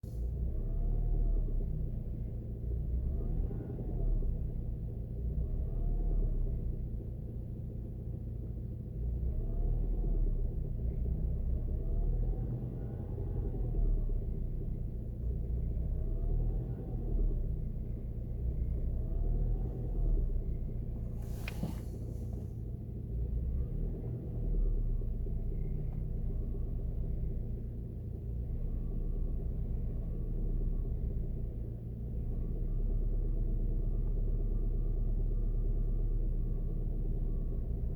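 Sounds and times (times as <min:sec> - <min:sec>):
car engine running: 0:00.0 - 0:37.9.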